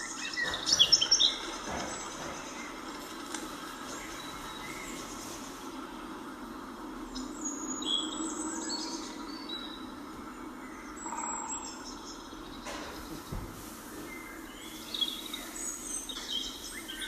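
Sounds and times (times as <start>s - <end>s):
birds chirping: 0.0s - 17.0s
low background hum: 0.0s - 17.0s.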